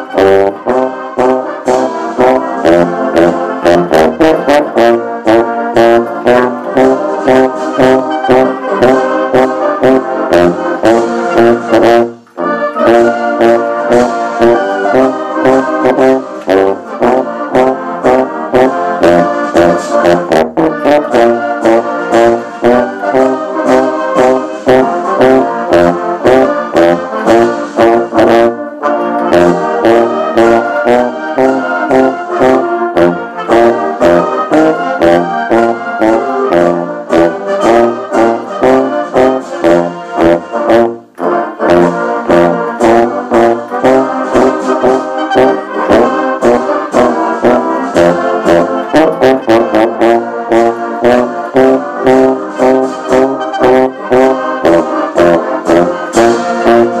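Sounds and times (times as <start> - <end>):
steady drum beat: 0.0 - 28.6, 29.2 - 57.0
brass band playing a hymn: 0.0 - 57.0.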